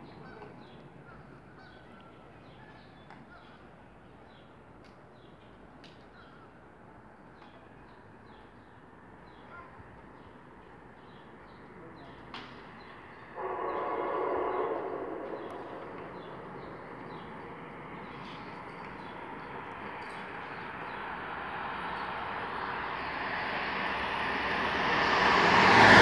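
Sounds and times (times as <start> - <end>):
faint birds chirping: 0.0 - 24.2.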